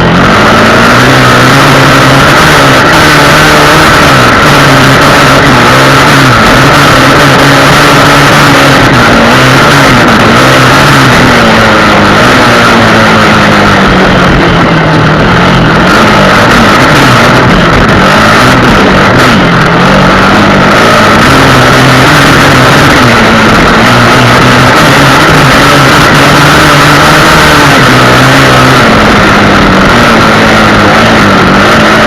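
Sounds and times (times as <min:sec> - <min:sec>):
motorcycle engine revving: 0:00.0 - 0:32.0
steady rush of noise: 0:00.0 - 0:32.0.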